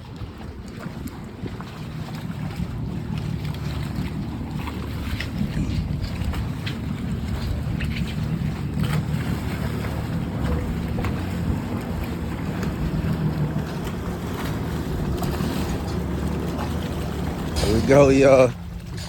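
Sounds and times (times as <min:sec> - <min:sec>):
boat engine rumbling: 0:00.0 - 0:19.0
water slapping against hull: 0:00.0 - 0:19.0
wind buffeting microphone: 0:00.0 - 0:19.0.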